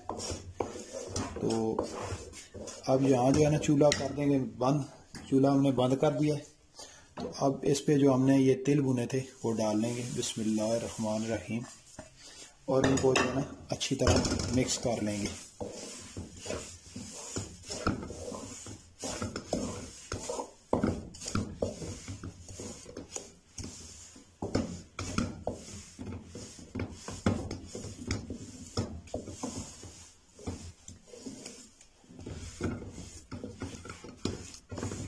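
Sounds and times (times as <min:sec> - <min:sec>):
wooden spoon scraping metal pot: 0:00.0 - 0:35.0.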